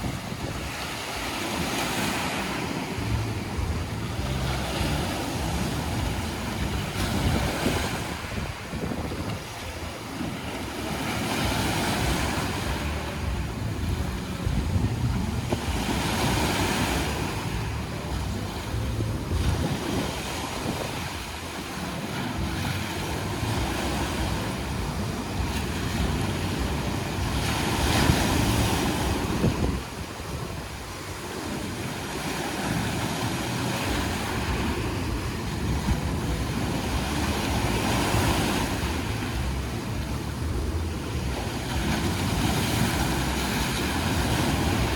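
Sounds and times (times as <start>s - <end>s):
sea waves washing ashore: 0.0s - 44.9s
wind rumbling on microphone: 0.0s - 44.9s.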